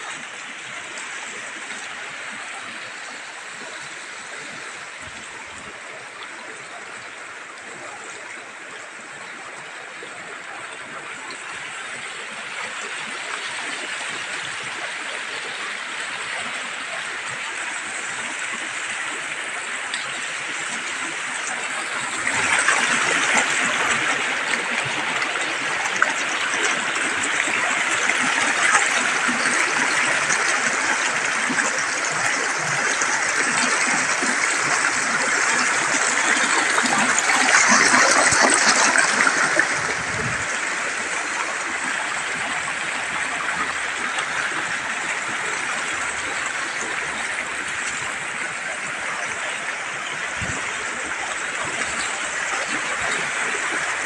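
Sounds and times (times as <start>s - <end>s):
water rushing over boulders: 0.0s - 54.0s.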